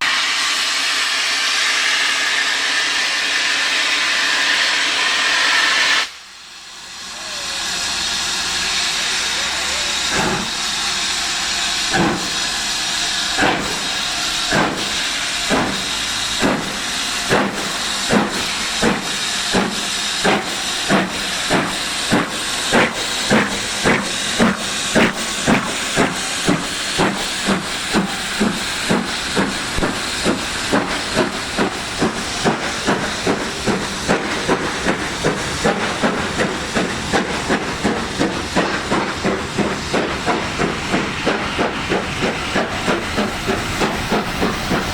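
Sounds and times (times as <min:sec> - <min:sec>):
hiss of steam: 0:00.0 - 0:44.9
steam locomotive exhaust beats: 0:00.0 - 0:44.9.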